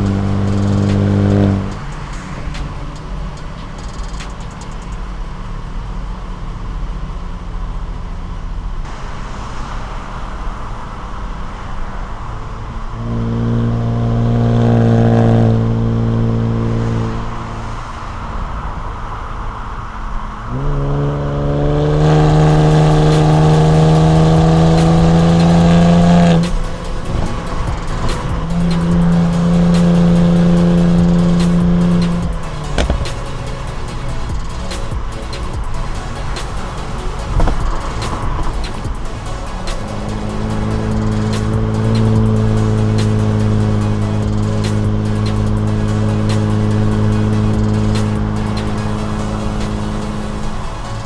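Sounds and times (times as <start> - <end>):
car exhaust drone: 0.0 - 51.0
engine revving under load: 0.0 - 51.0.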